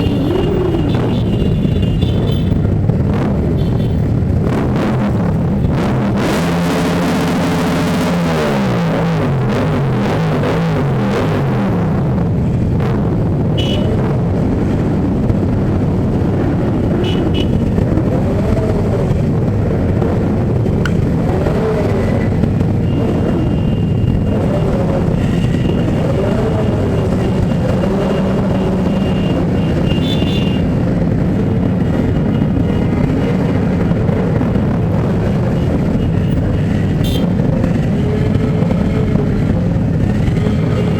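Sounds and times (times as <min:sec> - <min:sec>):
motorcycle engines revving: 0:00.0 - 0:40.9.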